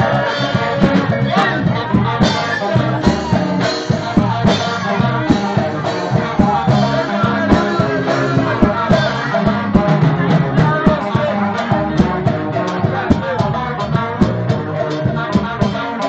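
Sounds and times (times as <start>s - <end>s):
loud music with singing: 0.0s - 16.0s
steady drum beat: 0.0s - 16.0s.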